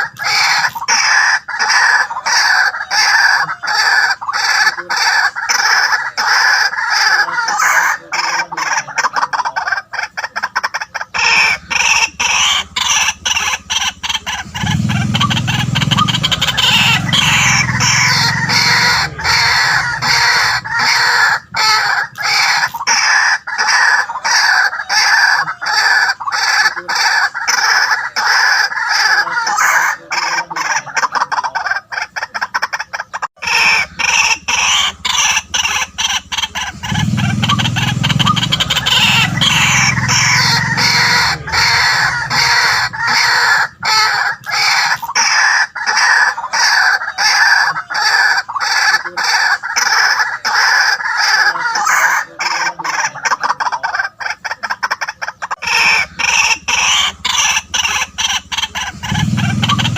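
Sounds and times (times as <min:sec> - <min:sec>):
waterhen calling harshly: 0:00.0 - 0:59.9.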